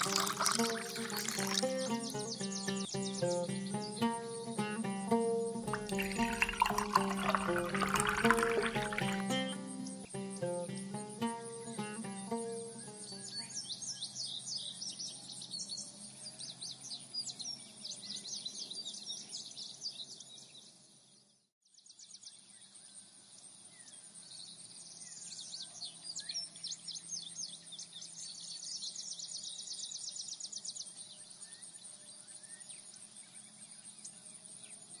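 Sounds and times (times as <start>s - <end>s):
songbirds chirping: 0.0s - 35.0s.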